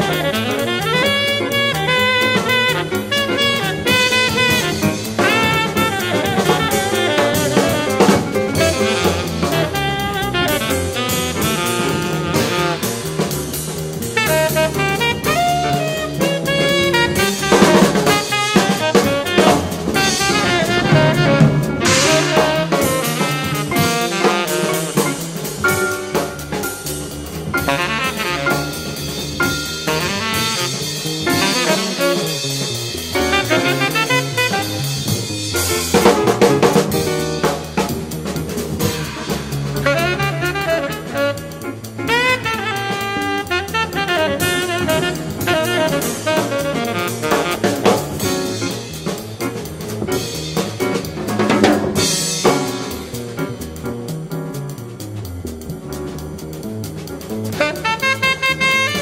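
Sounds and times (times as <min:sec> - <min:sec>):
saxophone: 0:00.0 - 0:13.4, 0:14.0 - 0:26.8, 0:27.5 - 0:37.5, 0:38.8 - 0:51.1, 0:57.5 - 0:59.0
bass: 0:00.0 - 0:59.0
drum kit: 0:00.0 - 0:59.0
piano: 0:00.0 - 0:59.0.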